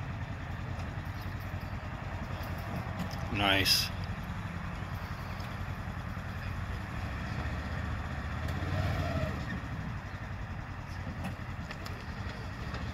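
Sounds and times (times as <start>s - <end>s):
vehicle engine low rumble: 0.0s - 12.9s.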